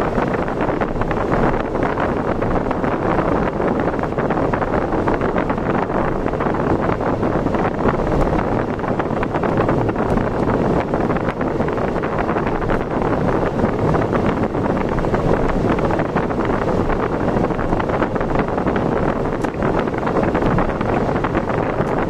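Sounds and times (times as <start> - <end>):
vehicle travelling at speed: 0.0 - 22.0
wind buffeting microphone: 0.0 - 22.0.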